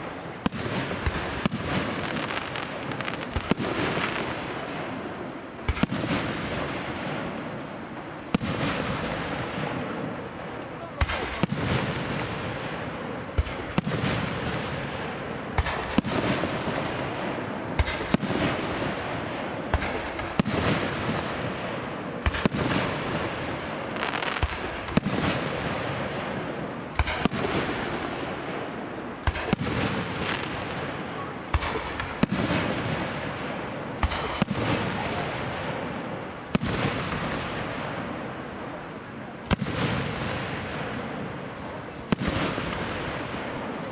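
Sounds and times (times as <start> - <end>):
firework hiss: 0.0 - 43.9.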